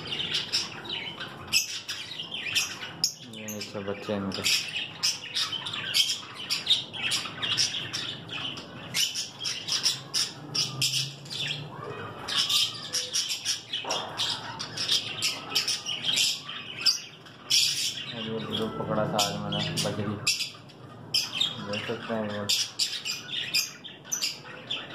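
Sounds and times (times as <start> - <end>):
small parrots chirping: 0.0 - 24.9.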